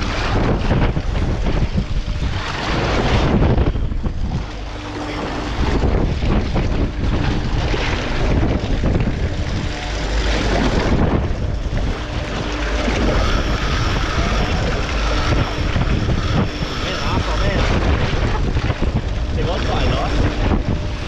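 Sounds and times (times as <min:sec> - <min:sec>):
heavy low rumble: 0:00.0 - 0:21.0
sea rushing against boat: 0:00.0 - 0:21.0
wind buffeting microphone: 0:00.0 - 0:21.0.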